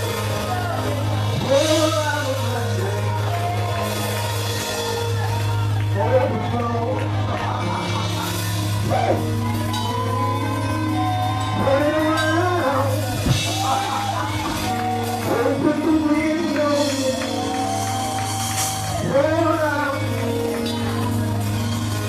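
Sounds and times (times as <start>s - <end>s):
drums: 0.0s - 22.0s.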